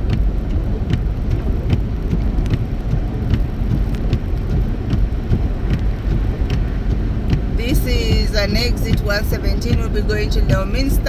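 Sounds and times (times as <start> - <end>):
car road noise with tyre hiss: 0.0 - 11.0
light ticking: 0.0 - 11.0.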